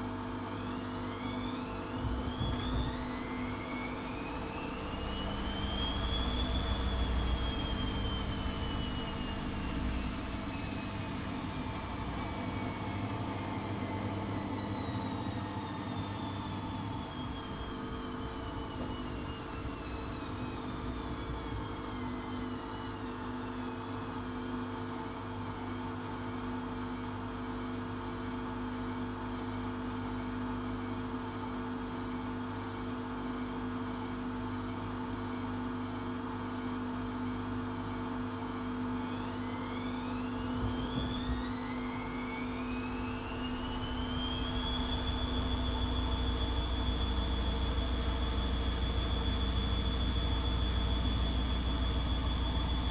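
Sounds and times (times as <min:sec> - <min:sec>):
washing machine motor whine: 0:00.0 - 0:31.4, 0:33.0 - 0:52.9.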